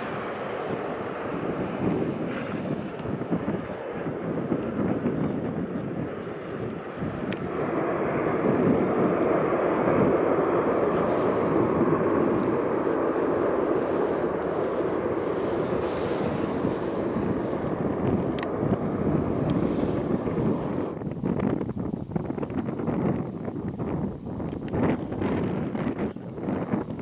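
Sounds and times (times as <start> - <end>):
jet engines in reverse thrust: 0.0 - 27.0.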